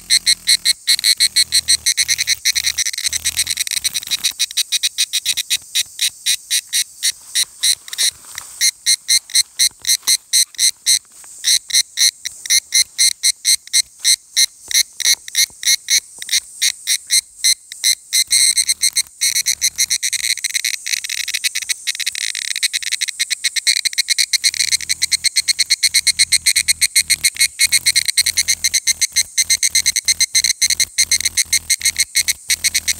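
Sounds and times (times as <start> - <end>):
cicada calling: 0.0 - 32.9.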